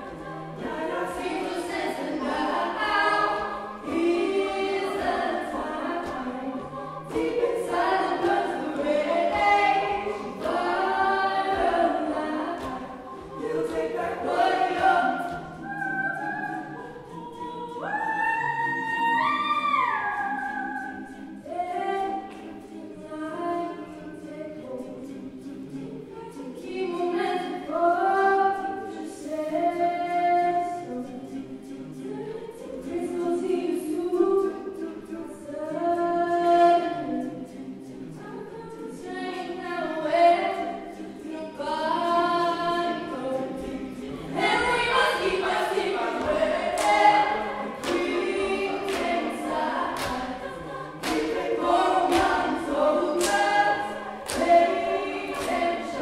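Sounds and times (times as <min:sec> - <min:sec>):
woman lead singing: 0:00.0 - 0:25.2, 0:32.0 - 0:56.0
backing vocal harmonies: 0:00.0 - 0:56.0.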